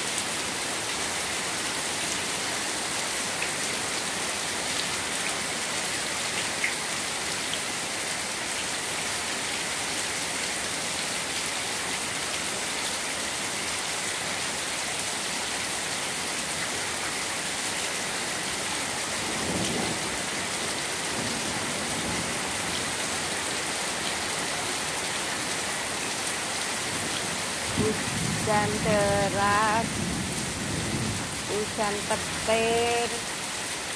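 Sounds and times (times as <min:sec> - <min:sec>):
heavy rain on water: 0:00.0 - 0:33.9.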